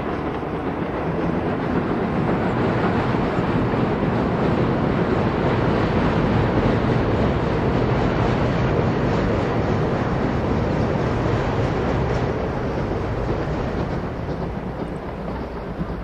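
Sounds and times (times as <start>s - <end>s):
steam train running: 0.0s - 16.0s.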